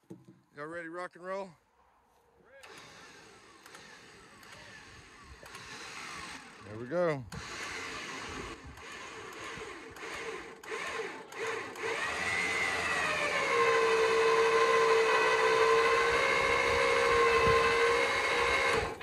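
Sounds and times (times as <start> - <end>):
electric winch motor whining: 2.6 - 19.0.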